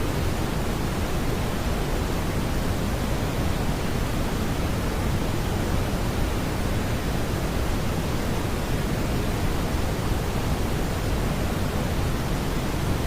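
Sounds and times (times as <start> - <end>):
brown noise hiss: 0.0 - 13.0.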